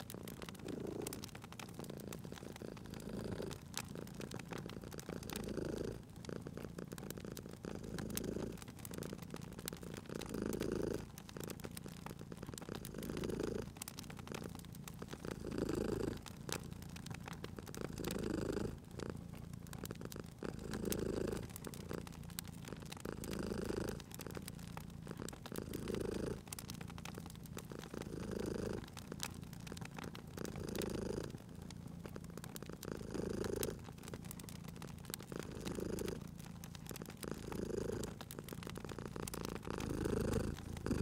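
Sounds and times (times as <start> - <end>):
cat purring: 0.0 - 41.0
wood fire crackling: 0.0 - 41.0.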